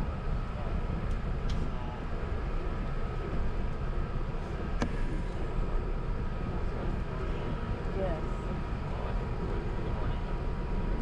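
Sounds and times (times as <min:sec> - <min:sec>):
aircraft cabin low rumble: 0:00.0 - 0:11.0
thin steady whine: 0:00.0 - 0:11.0.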